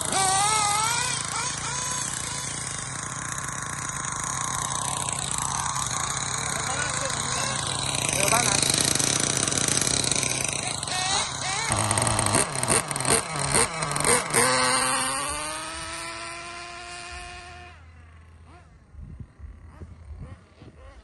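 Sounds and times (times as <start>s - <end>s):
rc car engine revving: 0.0s - 21.0s.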